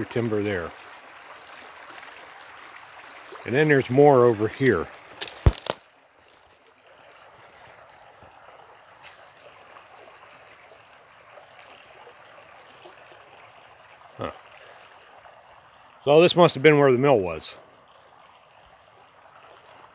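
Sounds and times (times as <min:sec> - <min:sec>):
creek water flowing: 0:00.0 - 0:19.9.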